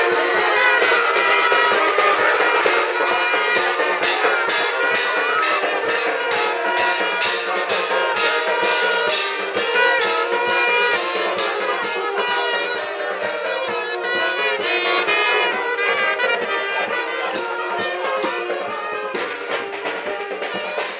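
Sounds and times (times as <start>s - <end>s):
brass band playing: 0.0s - 20.9s
steady drumbeat: 0.0s - 20.9s.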